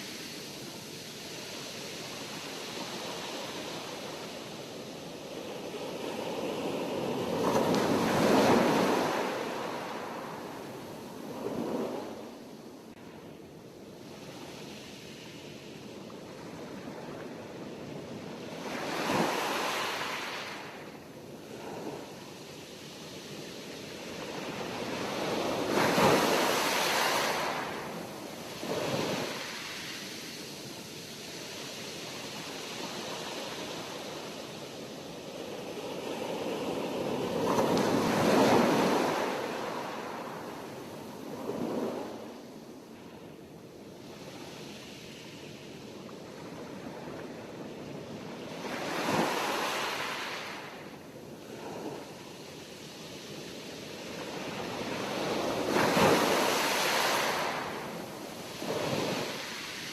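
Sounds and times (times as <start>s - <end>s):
sea waves breaking on shore: 0.0s - 12.7s, 16.3s - 43.0s, 43.8s - 59.9s.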